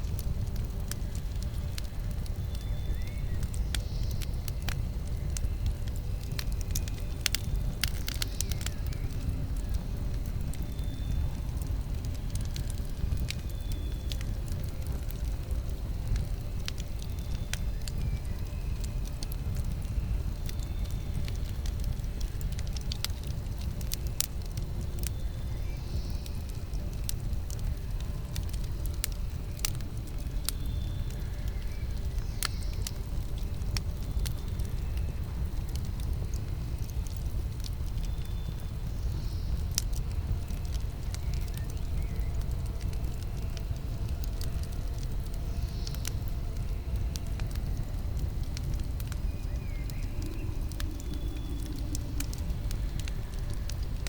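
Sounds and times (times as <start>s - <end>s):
campfire flames rumbling: 0.0s - 54.0s
wood crackling and popping: 0.0s - 54.0s.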